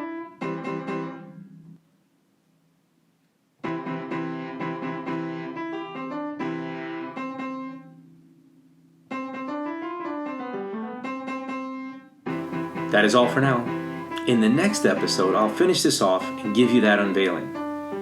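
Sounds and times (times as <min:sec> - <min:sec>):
piano-like keyboard melody: 0:00.0 - 0:01.8, 0:03.6 - 0:18.0.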